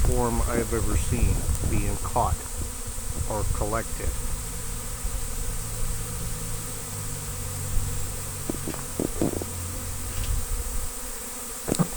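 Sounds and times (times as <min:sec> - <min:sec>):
bee swarm droning hum: 0:00.0 - 0:11.9.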